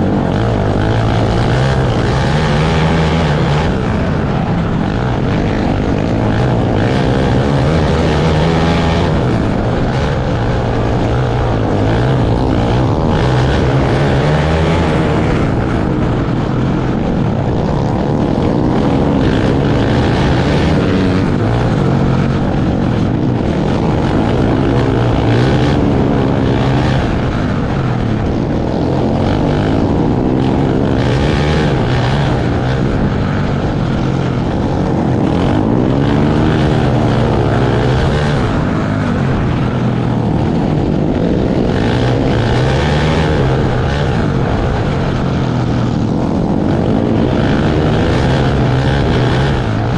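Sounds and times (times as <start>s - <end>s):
kart engines racing: 0.0s - 49.9s.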